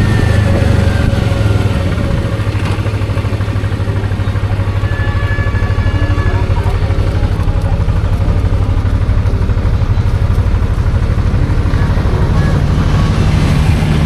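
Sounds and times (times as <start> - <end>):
motorcycle engine throbbing: 0.0 - 14.0.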